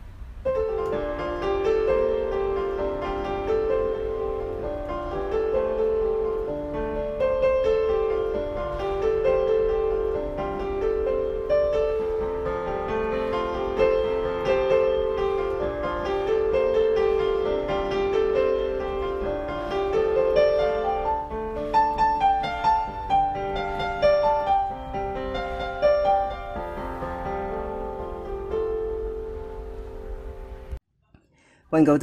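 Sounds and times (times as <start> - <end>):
piano piece: 0.0 - 30.8.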